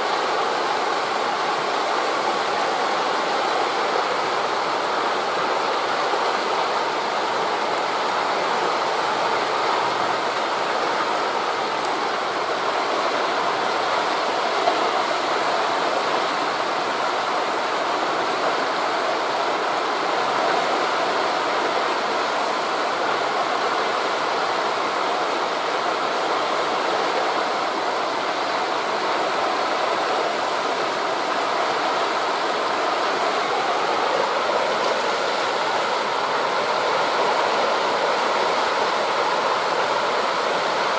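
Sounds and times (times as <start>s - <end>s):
waves breaking on a beach: 0.0s - 40.9s
wind through tree leaves: 0.0s - 40.9s.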